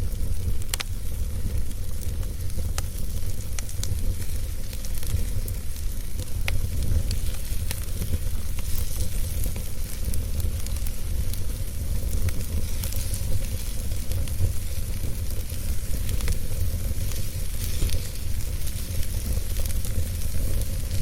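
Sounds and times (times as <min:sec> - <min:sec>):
fire crackles and pops: 0:00.0 - 0:21.0
wood fire burning: 0:00.0 - 0:21.0.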